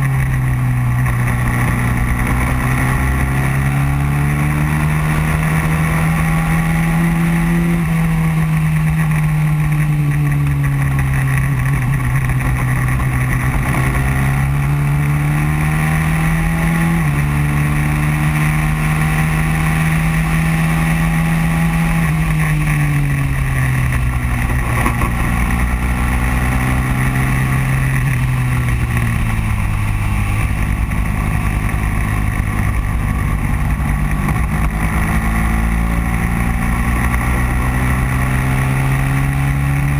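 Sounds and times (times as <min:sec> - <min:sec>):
kart engine at speed: 0:00.0 - 0:39.9.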